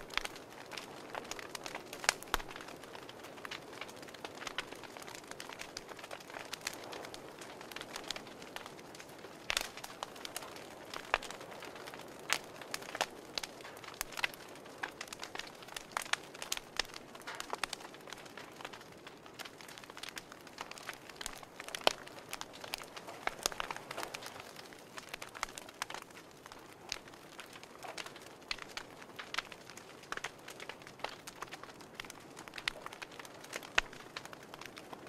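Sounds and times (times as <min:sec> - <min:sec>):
fire popping and snapping: 0:00.0 - 0:35.0
soft fire hiss: 0:00.0 - 0:35.0
wood fire crackling: 0:00.0 - 0:35.0.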